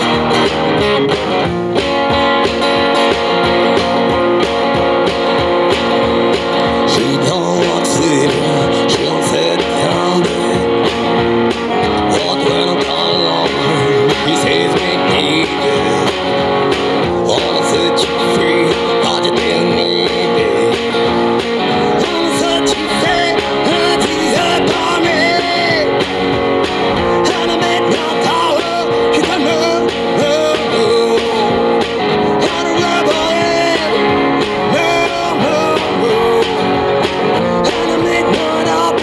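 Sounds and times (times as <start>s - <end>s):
person singing: 0.0s - 0.6s, 3.0s - 39.0s
strummed guitar: 0.0s - 39.0s.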